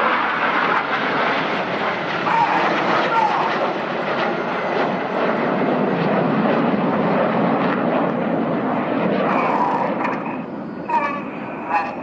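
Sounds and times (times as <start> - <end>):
jet roar: 0.0 - 12.0.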